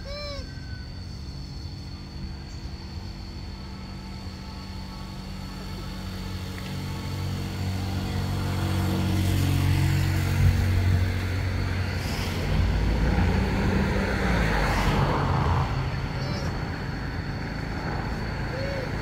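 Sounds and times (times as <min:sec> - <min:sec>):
vehicle engine running: 0:00.9 - 0:19.0.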